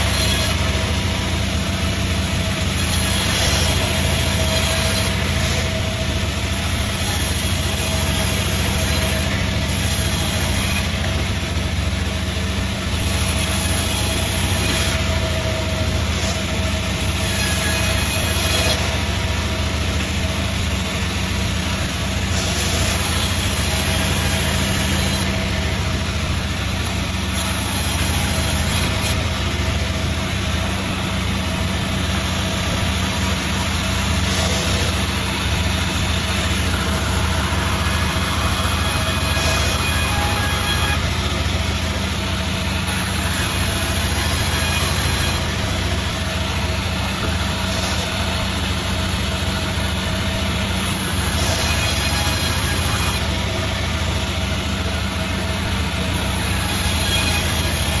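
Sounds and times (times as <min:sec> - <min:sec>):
sawmill machine hum: 0:00.0 - 0:58.0.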